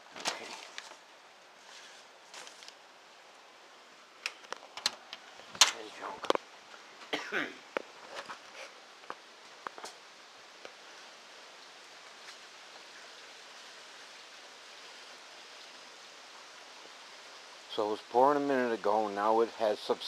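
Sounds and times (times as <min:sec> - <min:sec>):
rain on pavement and trees: 0:00.0 - 0:20.0.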